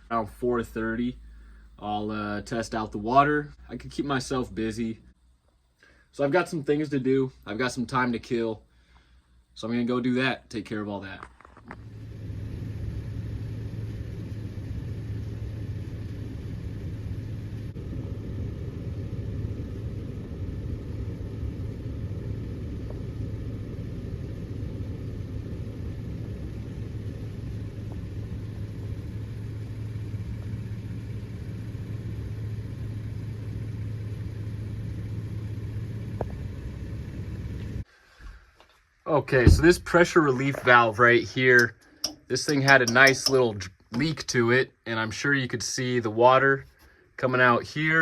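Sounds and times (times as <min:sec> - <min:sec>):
low mechanical rumble with hum: 0:00.0 - 0:38.4, 0:39.1 - 0:48.0.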